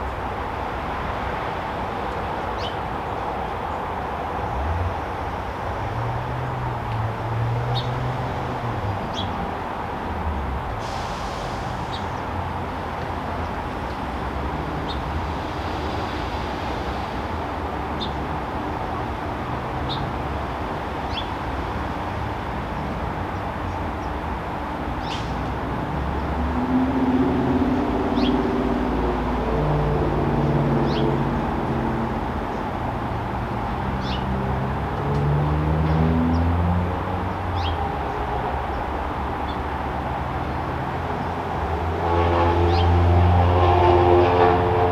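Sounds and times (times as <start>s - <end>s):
distant traffic rumble: 0.0s - 44.9s.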